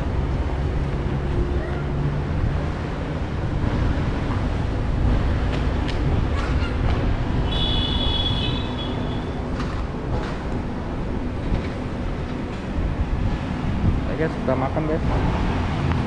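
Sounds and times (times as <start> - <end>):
traffic rumble: 0.0 - 16.0
wind rumble: 0.0 - 16.0.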